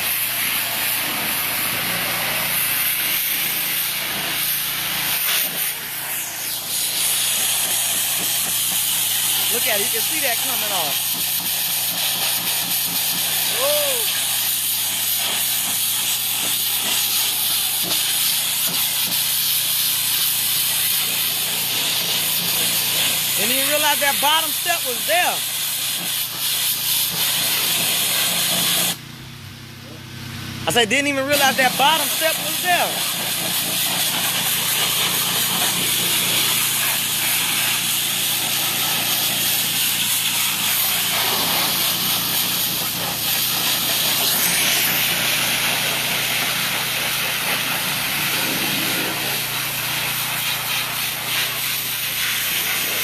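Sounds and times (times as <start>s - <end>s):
pressure washer jet hissing: 0.0s - 29.1s, 29.8s - 53.0s.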